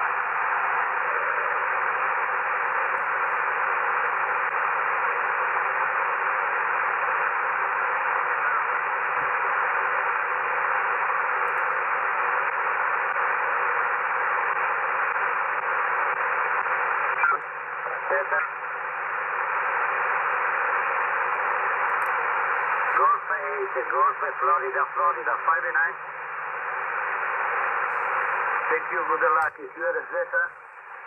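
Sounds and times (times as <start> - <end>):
shortwave radio static hiss: 0.0 - 31.0.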